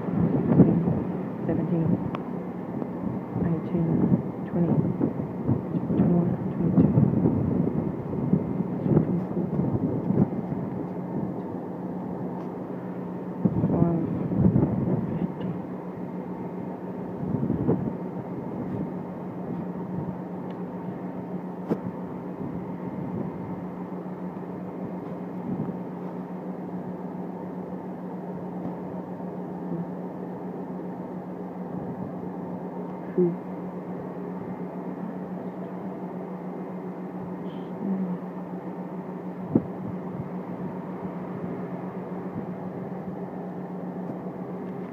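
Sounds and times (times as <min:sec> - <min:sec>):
train electrical hum: 0:00.0 - 0:44.9.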